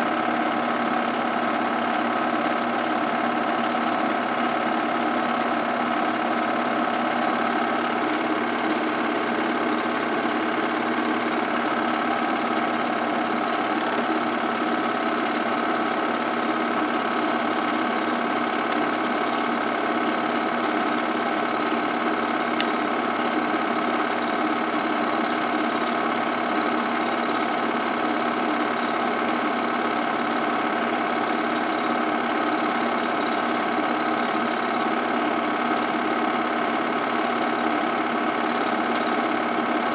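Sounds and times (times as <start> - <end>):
film projector whirring clatter: 0.0 - 39.9.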